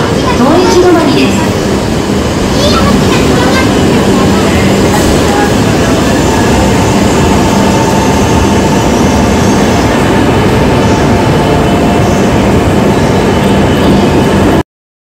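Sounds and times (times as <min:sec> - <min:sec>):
train rumbling: 0:00.0 - 0:14.6.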